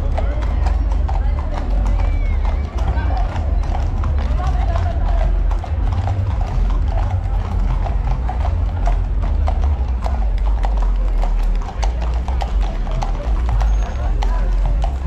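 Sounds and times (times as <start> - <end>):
hooves clip-clopping on pavement: 0.0 - 15.0.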